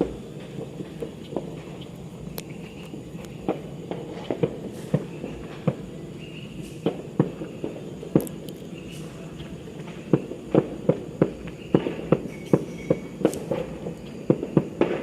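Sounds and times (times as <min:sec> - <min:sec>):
steady low rumble: 0:00.0 - 0:12.2
fireworks and firecrackers cracking: 0:00.0 - 0:15.0.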